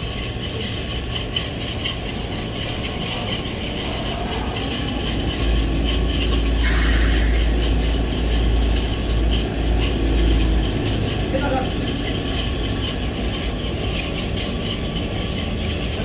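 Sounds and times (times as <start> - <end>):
heavy low rumble: 0.0 - 16.0
industrial machinery running: 0.0 - 16.0.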